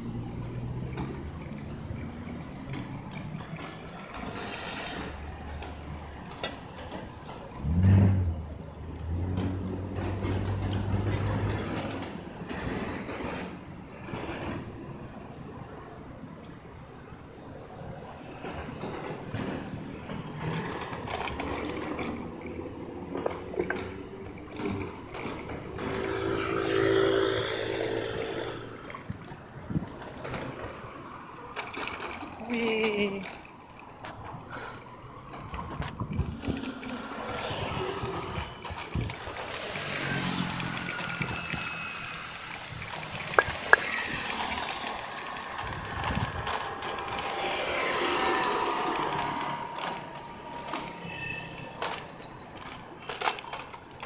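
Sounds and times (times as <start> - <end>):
bicycle rattling over paving: 0.0 - 54.0
city street traffic: 0.0 - 54.0
scooters passing: 0.0 - 54.0.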